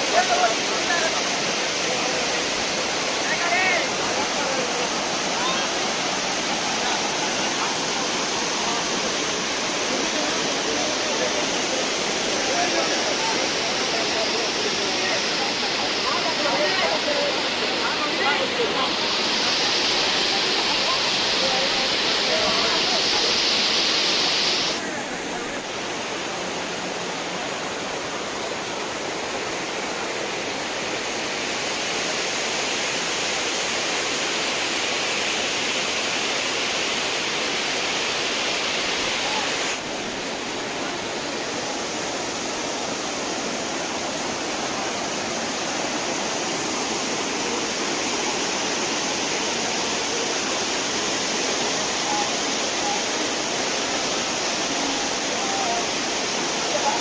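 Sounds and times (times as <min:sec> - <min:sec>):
waterfall rushing over rocks: 0:00.0 - 0:57.0.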